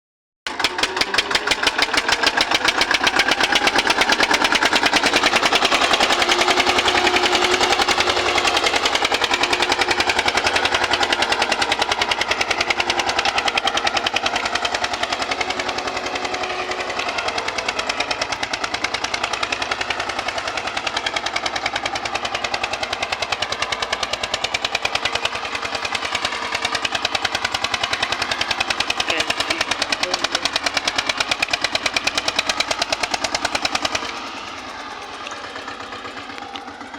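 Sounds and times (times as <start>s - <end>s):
tractor diesel engine running: 0.5s - 36.9s.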